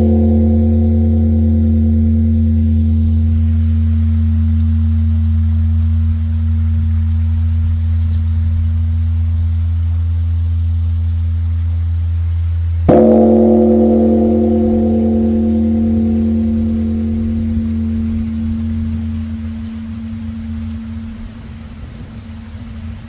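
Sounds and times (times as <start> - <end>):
large temple bell ringing: 0.0 - 9.2, 12.9 - 23.0.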